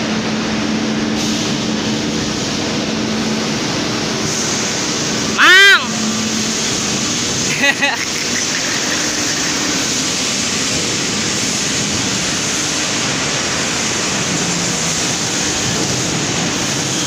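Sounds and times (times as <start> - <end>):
loud machinery noise: 0.0 - 17.0.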